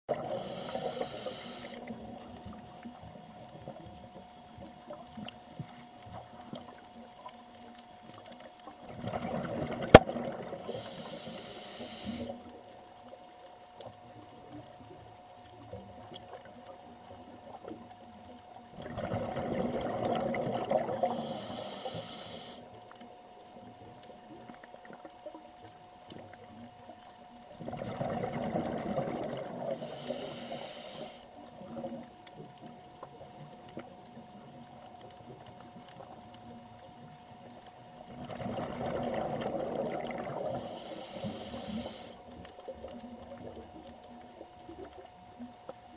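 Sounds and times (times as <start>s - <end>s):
exhaled bubbles underwater: 0.1s - 13.2s, 13.9s - 45.9s
faint steady hum: 0.1s - 45.9s.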